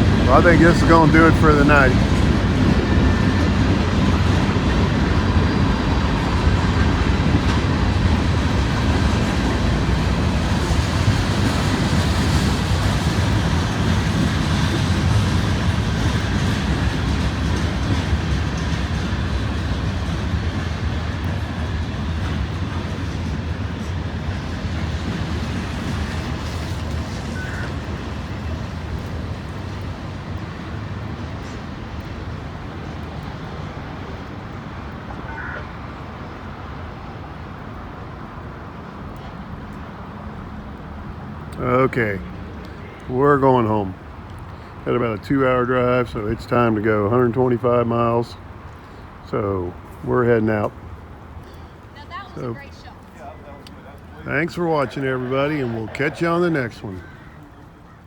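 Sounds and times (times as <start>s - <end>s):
freight train cars rolling on rails: 0.0s - 58.0s.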